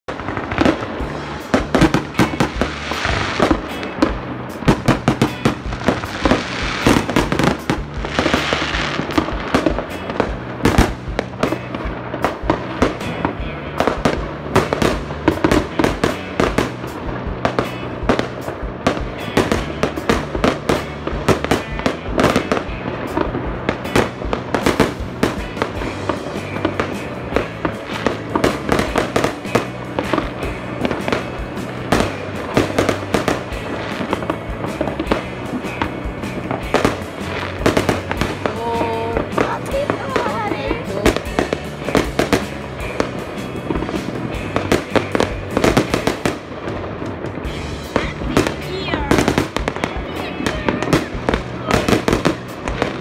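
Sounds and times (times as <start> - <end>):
fireworks bangs and crackles: 0.0 - 53.0
music playing: 0.1 - 53.0.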